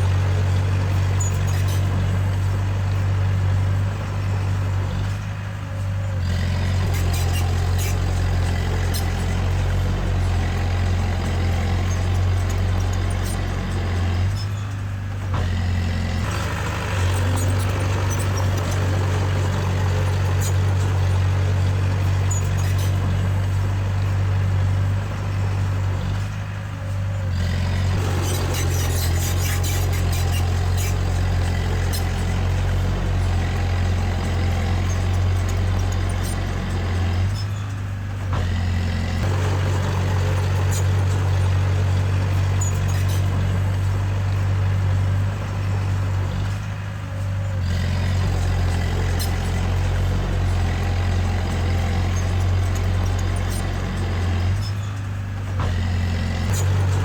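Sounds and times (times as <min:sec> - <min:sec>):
bulldozer diesel engine running hard: 0:00.0 - 0:57.0.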